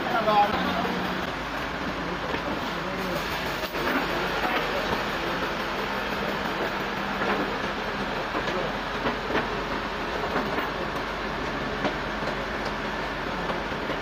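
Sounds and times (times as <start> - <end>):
sawmill machinery din: 0.0 - 14.0.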